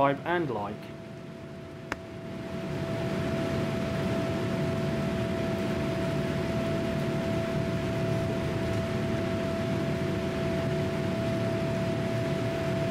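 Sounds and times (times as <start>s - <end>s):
faint steady hum: 0.0s - 12.9s
engine and airflow rush: 0.1s - 12.9s.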